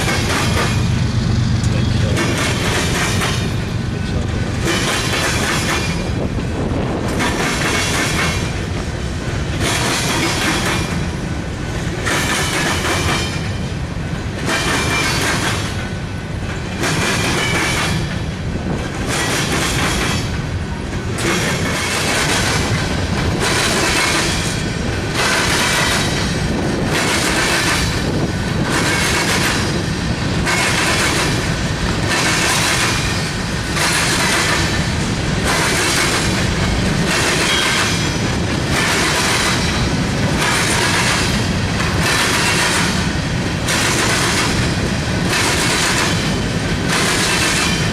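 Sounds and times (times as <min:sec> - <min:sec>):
freight train cars rolling past: 0:00.0 - 0:47.9
wheel and rail noise: 0:00.0 - 0:47.9.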